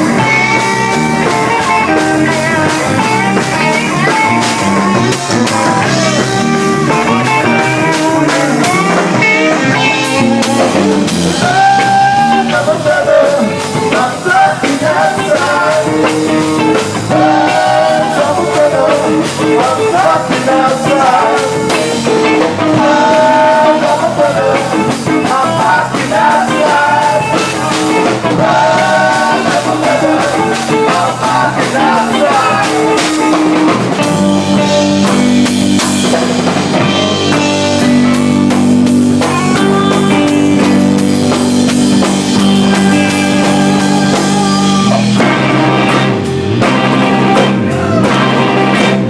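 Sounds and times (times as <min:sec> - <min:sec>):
person singing: 0:00.0 - 0:33.8, 0:39.1 - 0:41.0, 0:41.6 - 0:46.3, 0:46.9 - 0:48.7
rock band playing guitar and drums: 0:00.0 - 0:49.0.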